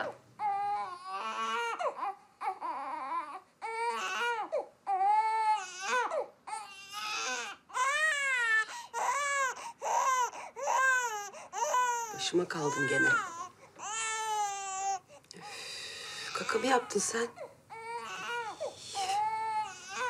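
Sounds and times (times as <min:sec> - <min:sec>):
baby crying: 0:00.0 - 0:15.1, 0:16.1 - 0:20.0.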